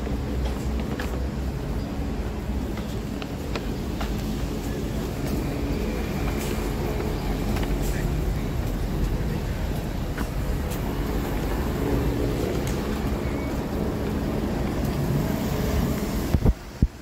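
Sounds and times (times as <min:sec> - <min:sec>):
car engines and tyres: 0:00.0 - 0:17.0.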